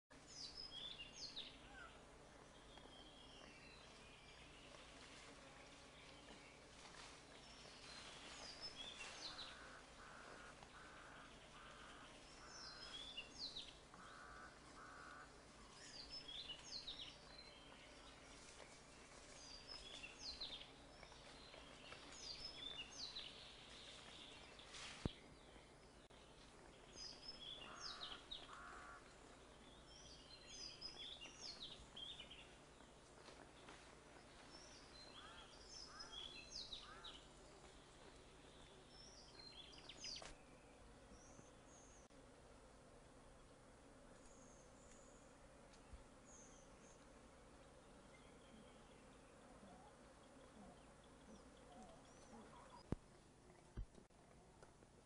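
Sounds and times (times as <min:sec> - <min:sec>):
birds chirping: 0:00.2 - 0:42.2, 0:44.2 - 0:53.9.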